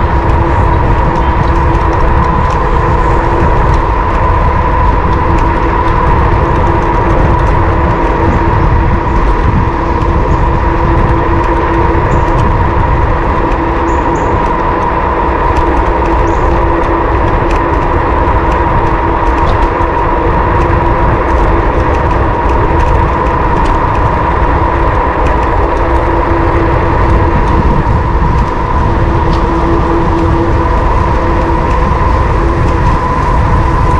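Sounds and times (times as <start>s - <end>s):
electric motor whine: 0.0s - 33.9s
wind buffeting microphone: 0.0s - 33.9s.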